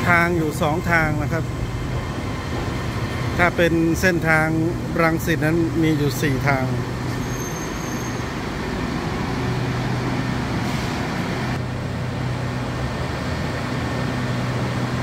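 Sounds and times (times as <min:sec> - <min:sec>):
electric train running slowly: 0:00.0 - 0:15.0.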